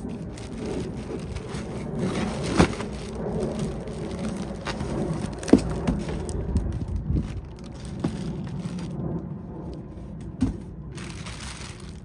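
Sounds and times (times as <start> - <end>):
packaging rustling and scraping: 0.0 - 12.0.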